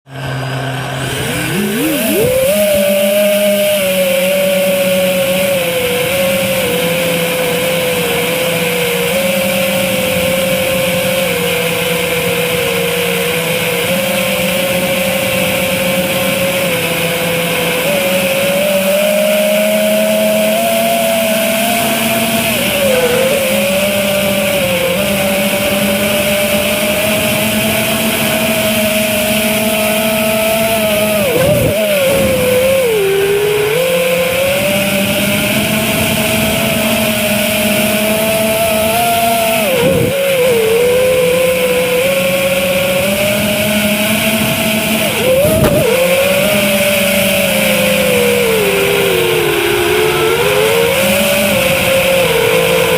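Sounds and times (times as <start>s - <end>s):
quadcopter motors buzzing: 0.1s - 52.9s.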